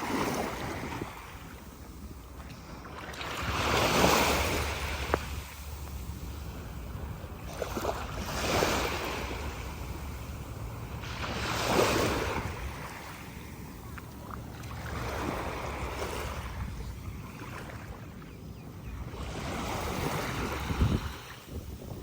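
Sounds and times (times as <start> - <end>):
small sea waves breaking: 0.0 - 18.3, 18.9 - 22.0
wind on microphone: 0.0 - 22.0.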